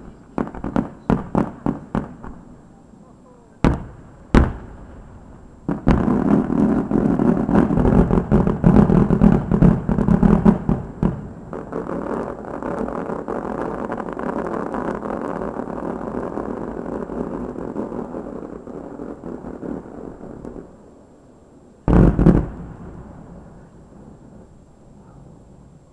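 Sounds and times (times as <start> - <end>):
fireworks crackling bangs: 0.0 - 21.1, 21.8 - 24.7
fireworks rushing noise: 0.0 - 25.8.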